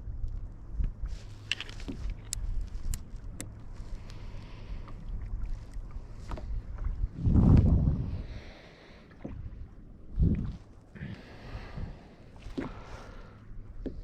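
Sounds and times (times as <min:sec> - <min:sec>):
water against hull: 0:00.0 - 0:14.0
wind rumble on microphone: 0:00.0 - 0:14.0.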